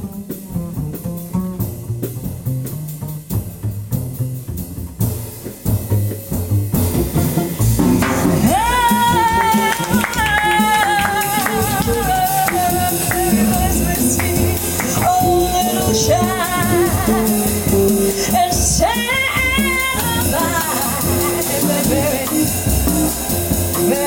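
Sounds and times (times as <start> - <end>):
small jazz band playing: 0.0 - 24.0.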